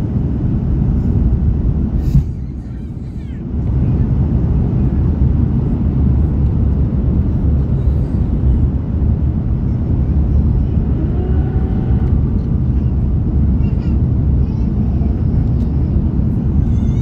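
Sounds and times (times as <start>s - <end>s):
airliner engine rumble: 0.0s - 17.0s.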